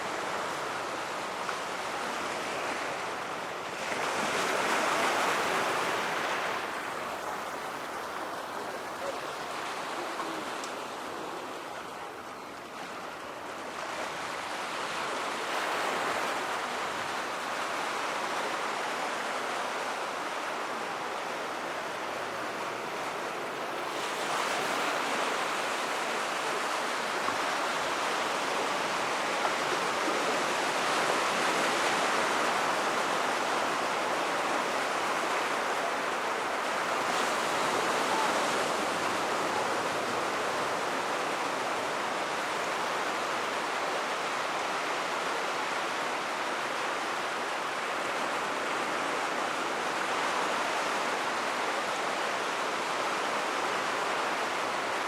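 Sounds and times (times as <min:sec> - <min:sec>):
surf washing on a beach: 0:00.0 - 0:55.0.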